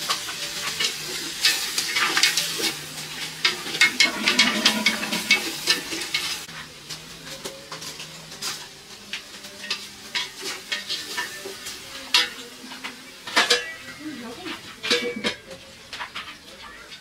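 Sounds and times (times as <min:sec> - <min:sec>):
utensil scraping food in pan: 0:00.0 - 0:06.7, 0:07.7 - 0:17.0
thin sizzle: 0:00.0 - 0:17.0.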